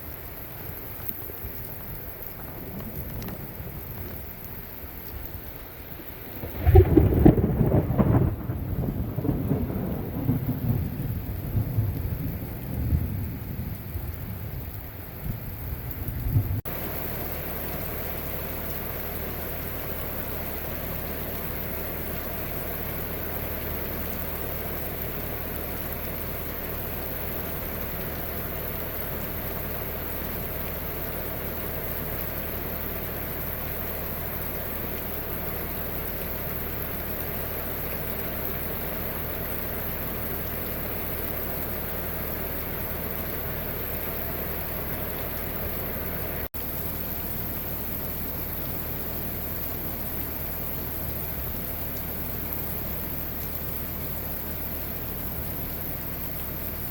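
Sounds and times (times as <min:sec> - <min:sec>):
heavy rain: 0:00.0 - 0:56.9
thunder rumbling: 0:00.4 - 0:56.9.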